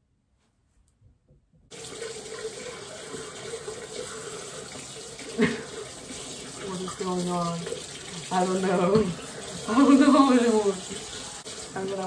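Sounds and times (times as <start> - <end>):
water running into sink: 1.7 - 12.0.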